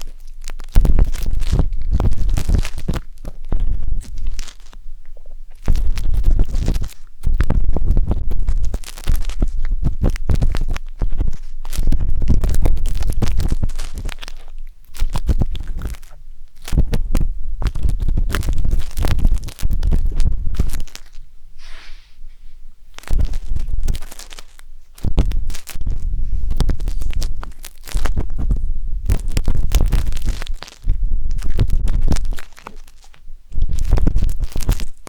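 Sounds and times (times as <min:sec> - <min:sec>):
skewer scraping microphone: 0:00.0 - 0:35.0.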